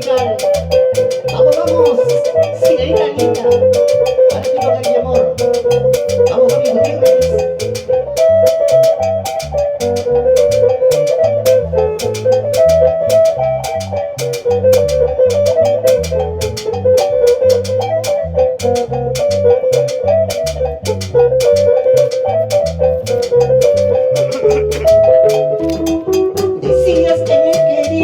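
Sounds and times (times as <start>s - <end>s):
band playing instrumental: 0.0s - 28.0s.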